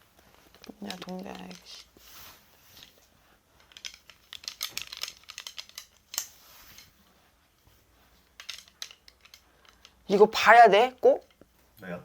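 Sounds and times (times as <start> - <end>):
light handling clicks and rustles: 0.0 - 10.2.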